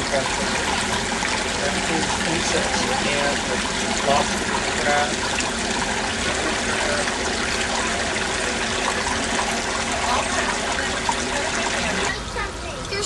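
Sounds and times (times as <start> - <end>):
water trickling over rocks: 0.0 - 13.0.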